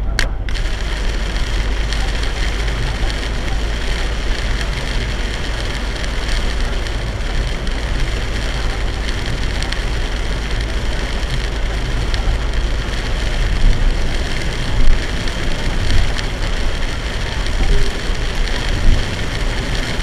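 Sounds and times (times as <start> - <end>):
heavy rain on car roof: 0.0 - 20.0
low rumble of tyres and engine: 0.0 - 20.0.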